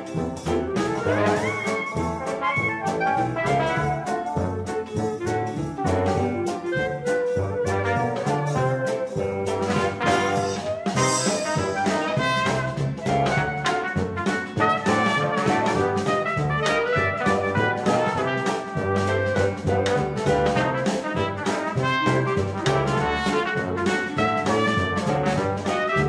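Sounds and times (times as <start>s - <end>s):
brass music over a beat: 0.0s - 26.0s.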